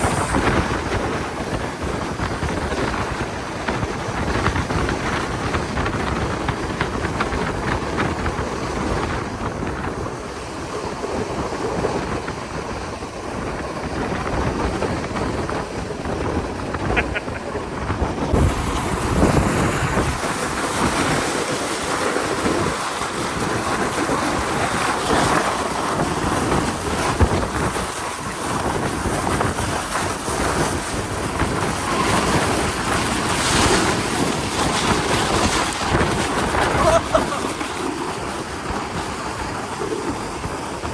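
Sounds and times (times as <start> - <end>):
steady rushing noise: 0.0 - 40.9
wind buffeting microphone: 0.0 - 40.9.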